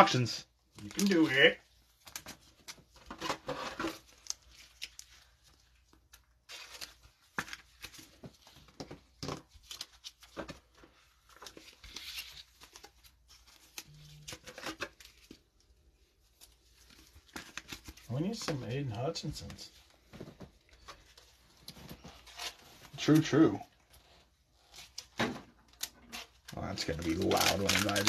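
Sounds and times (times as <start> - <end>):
trading cards being handled: 0.7 - 3.1, 3.8 - 23.9, 24.6 - 28.0.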